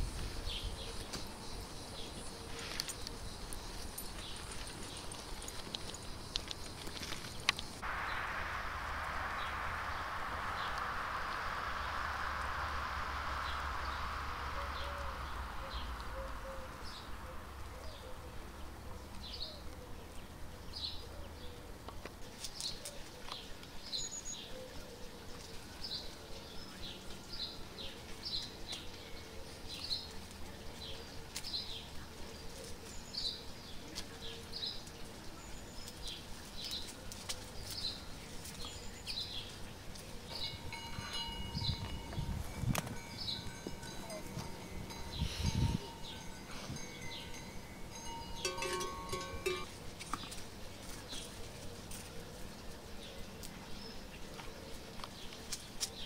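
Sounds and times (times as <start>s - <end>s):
bird chirping: 0.0s - 21.6s, 22.4s - 52.1s.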